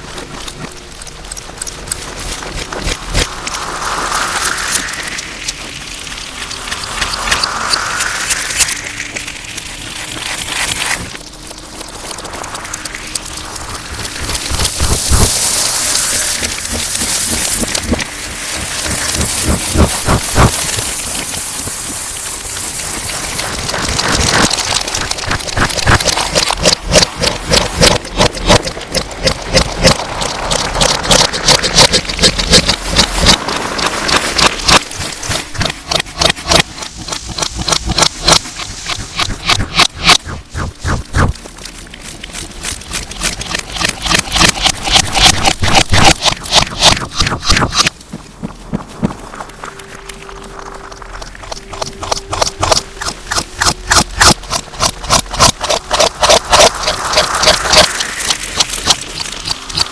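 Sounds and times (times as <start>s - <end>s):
wet crackling hiss: 0.0s - 59.9s.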